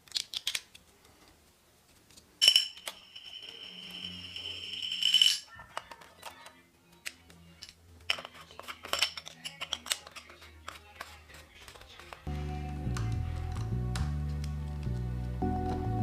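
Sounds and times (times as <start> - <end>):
faint background music: 2.3 - 16.0.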